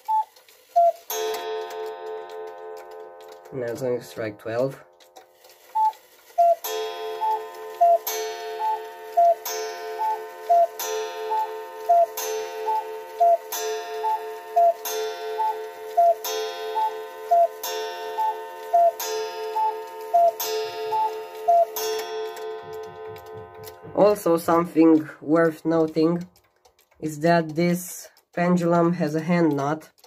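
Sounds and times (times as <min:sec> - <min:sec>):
clock gong strokes: 0:00.0 - 0:26.0
cuckoo clock call: 0:00.0 - 0:27.0.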